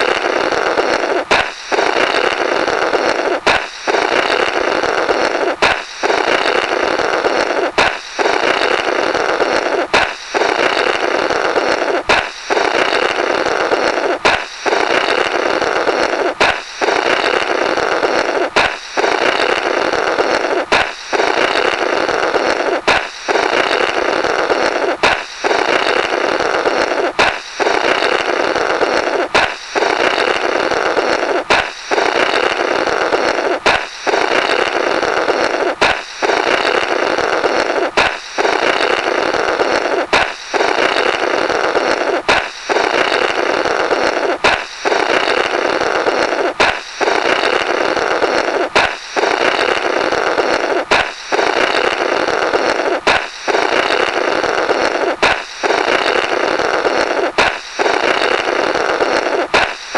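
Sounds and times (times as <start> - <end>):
balloon popping: 0.0 - 59.9
blowing through burst balloon: 0.0 - 59.9.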